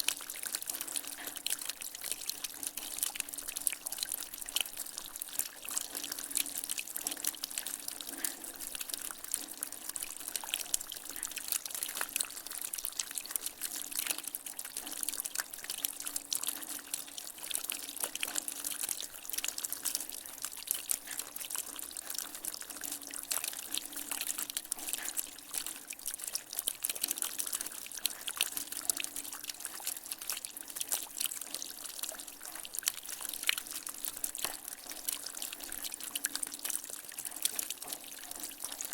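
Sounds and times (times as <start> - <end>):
water dripping from gutter: 0.0 - 38.9.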